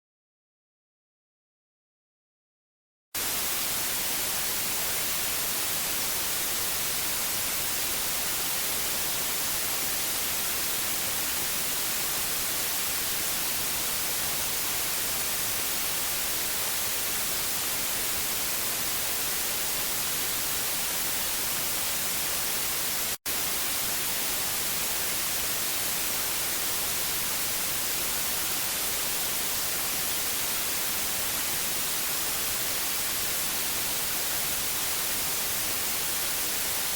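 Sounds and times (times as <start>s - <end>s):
tv static hiss: 3.2s - 36.9s.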